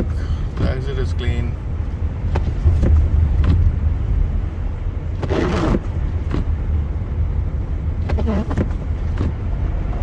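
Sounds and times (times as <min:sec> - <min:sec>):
tyre and engine rumble: 0:00.0 - 0:10.0.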